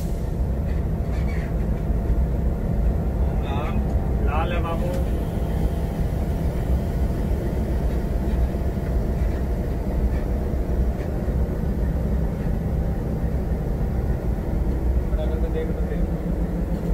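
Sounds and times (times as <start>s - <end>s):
diesel engine droning: 0.0s - 16.9s.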